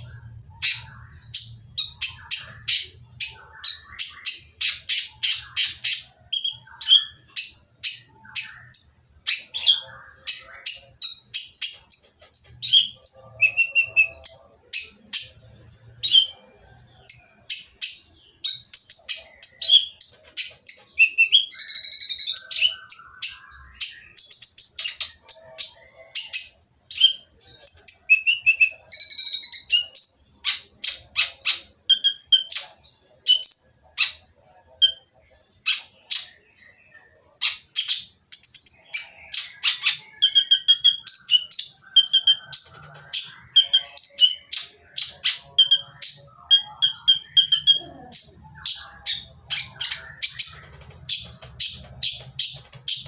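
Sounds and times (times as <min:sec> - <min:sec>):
bird chirping harshly: 0:00.0 - 0:53.0.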